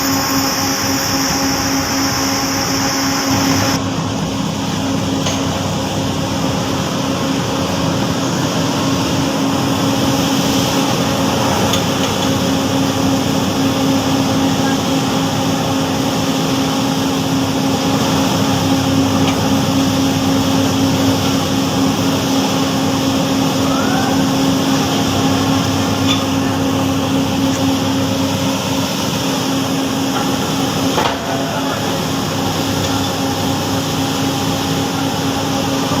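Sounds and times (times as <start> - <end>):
heavy factory machinery hum: 0.0 - 36.0.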